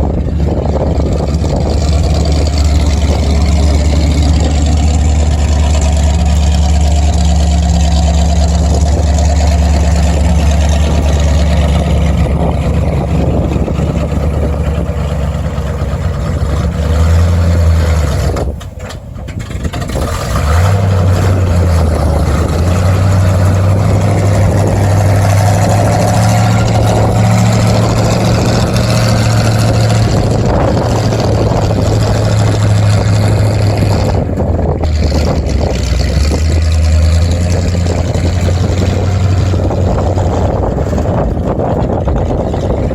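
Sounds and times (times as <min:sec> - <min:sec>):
truck engine droning: 0:00.0 - 0:42.9.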